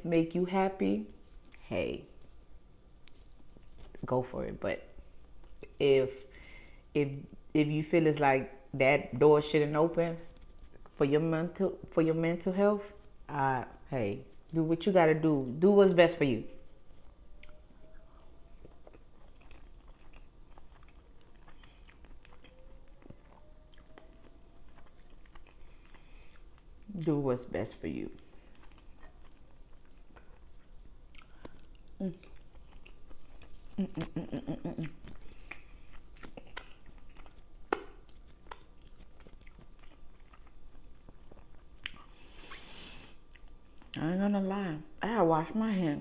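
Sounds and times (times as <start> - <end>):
faint chewing and mouth sounds: 0.7 - 8.7, 9.4 - 44.2.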